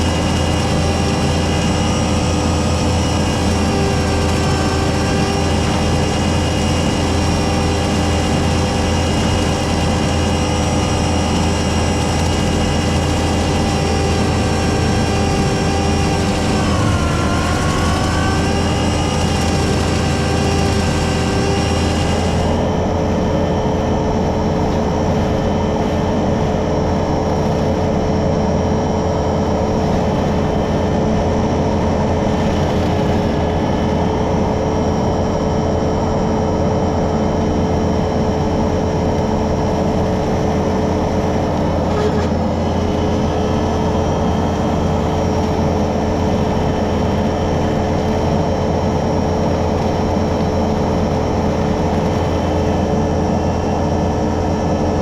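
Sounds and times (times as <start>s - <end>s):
diesel engine droning: 0.0s - 55.0s
hydraulic brush cutter whine: 0.0s - 55.0s.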